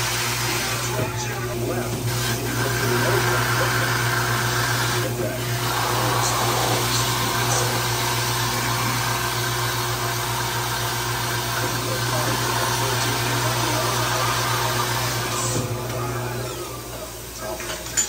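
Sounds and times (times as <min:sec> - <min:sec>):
drill press motor hum: 0:00.0 - 0:18.0.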